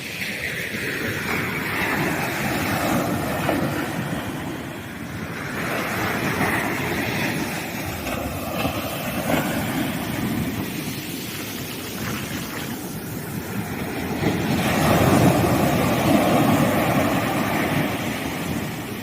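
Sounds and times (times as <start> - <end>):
sea waves breaking on beach: 0.0 - 19.0.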